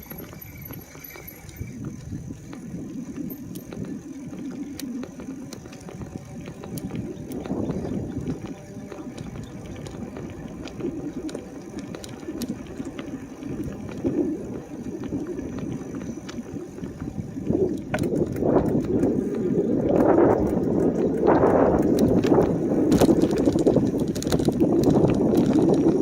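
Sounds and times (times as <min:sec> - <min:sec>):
bike tyres rumbling on pavement: 0:00.0 - 0:26.0.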